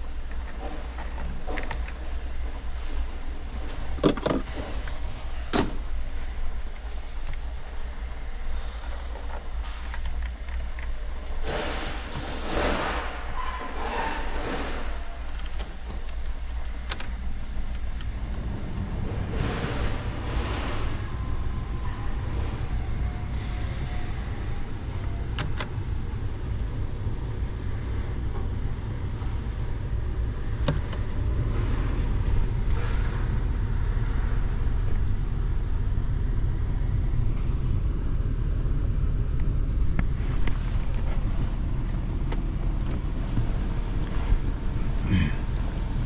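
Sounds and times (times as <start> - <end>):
vehicle engine idling: 0.0 - 46.0.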